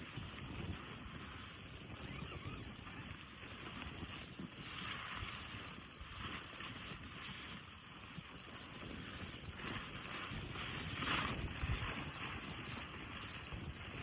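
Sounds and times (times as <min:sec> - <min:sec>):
wind buffeting microphone: 0:00.0 - 0:07.6, 0:08.2 - 0:14.0
gusting wind: 0:00.0 - 0:14.0.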